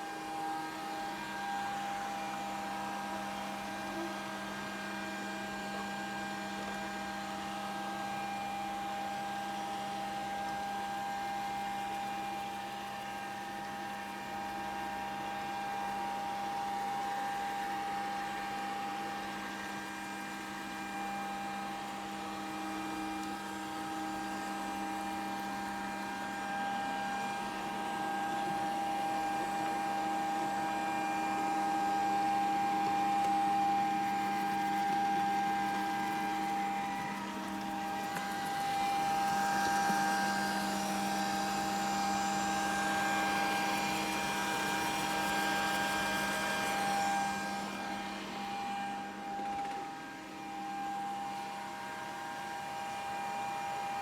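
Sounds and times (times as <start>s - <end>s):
vacuum motor whine: 0.0s - 54.0s.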